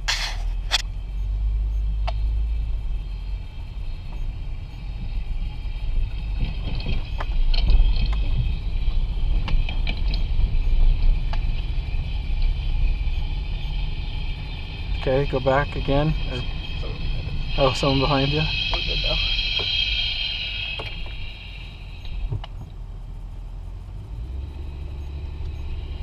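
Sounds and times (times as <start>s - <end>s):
vehicle road rumble: 0.0s - 26.0s.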